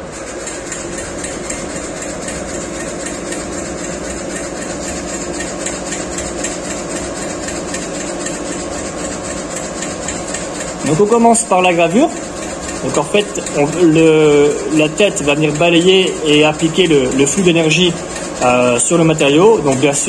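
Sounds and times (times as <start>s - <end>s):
laser engraver humming and hissing: 0.0s - 20.0s.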